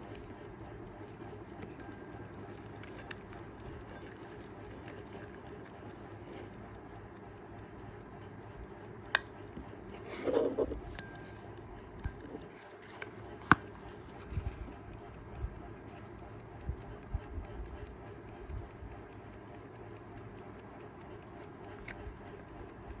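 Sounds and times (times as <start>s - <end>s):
alarm clock ticking: 0.0s - 23.0s.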